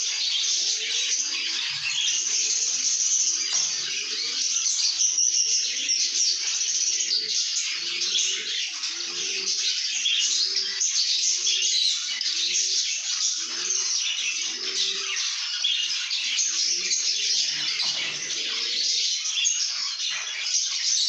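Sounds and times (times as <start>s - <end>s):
lovebirds chattering: 0.0s - 21.0s.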